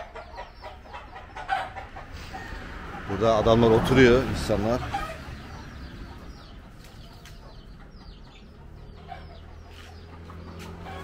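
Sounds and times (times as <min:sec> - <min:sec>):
chickens chirping: 0:00.0 - 0:11.0.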